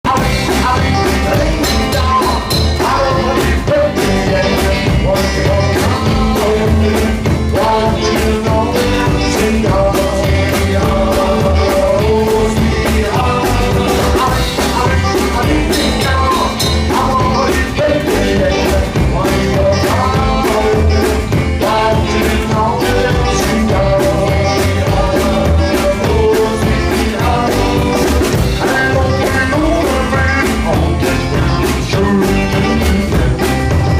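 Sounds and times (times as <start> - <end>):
person singing: 0.0 - 33.9
rock and roll band playing: 0.0 - 33.9.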